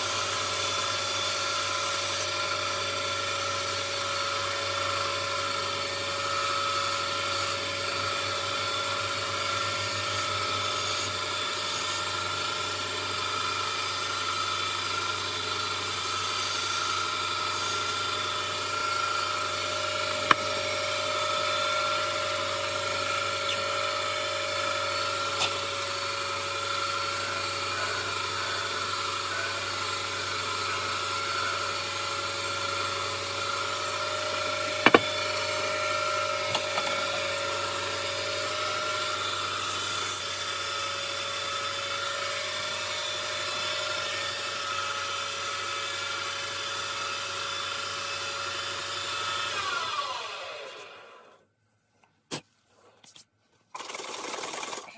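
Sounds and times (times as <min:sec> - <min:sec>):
turning tool cutting wood: 0:00.0 - 0:51.4, 0:53.7 - 0:54.9
wood lathe whine: 0:00.0 - 0:51.4.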